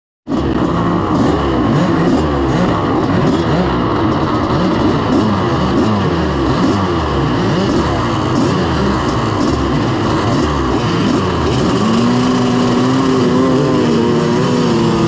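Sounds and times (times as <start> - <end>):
two-stroke engine revving: 0.3 - 15.0.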